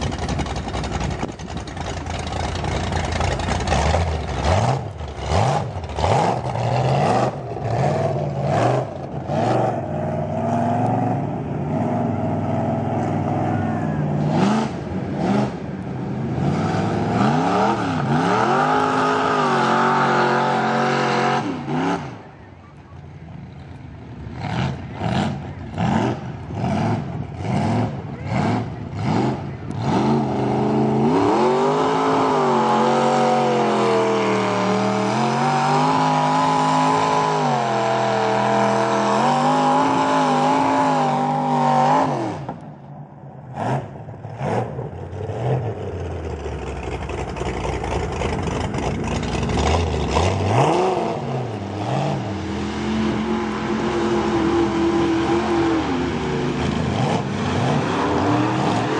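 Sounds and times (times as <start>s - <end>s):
truck engine revving: 0.0s - 42.8s, 43.4s - 58.9s.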